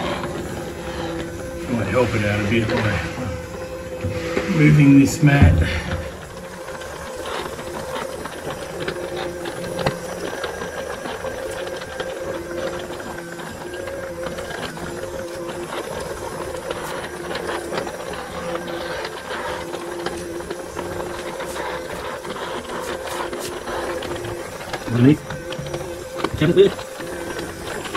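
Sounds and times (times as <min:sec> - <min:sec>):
robot vacuum motor whirring: 0:00.0 - 0:27.9.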